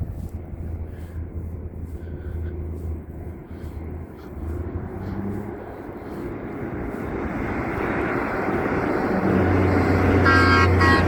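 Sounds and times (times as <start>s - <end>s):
dump truck engine and tyre roar: 0.0s - 11.0s.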